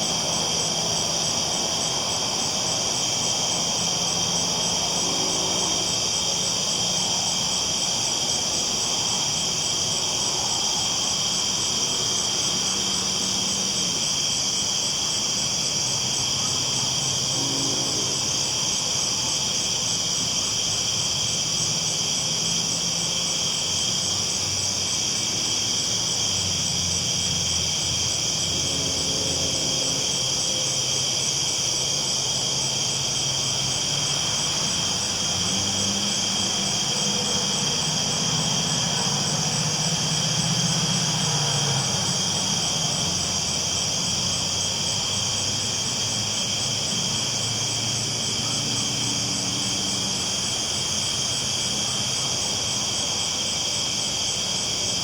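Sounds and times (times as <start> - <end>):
night insects chirping: 0.0 - 55.0.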